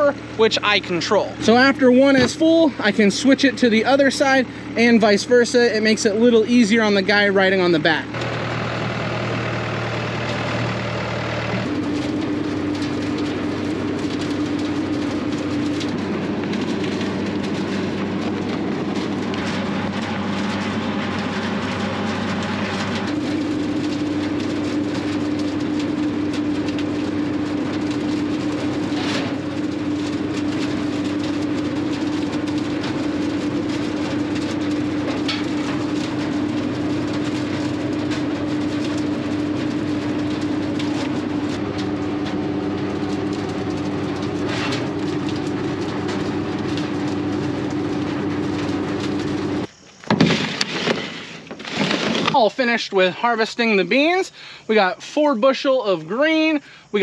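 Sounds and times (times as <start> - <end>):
bean picker machine drone: 0.0 - 57.0
tractor engine: 0.0 - 57.0.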